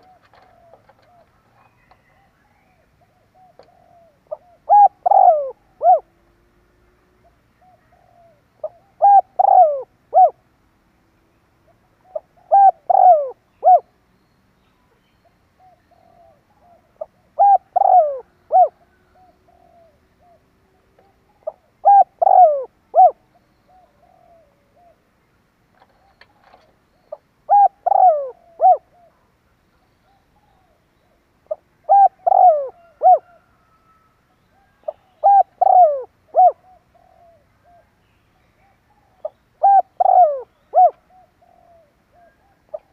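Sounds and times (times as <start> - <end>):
dove cooing: 0.0 - 6.2, 7.2 - 10.4, 11.6 - 13.9, 15.6 - 25.0, 25.8 - 29.2, 31.4 - 42.9.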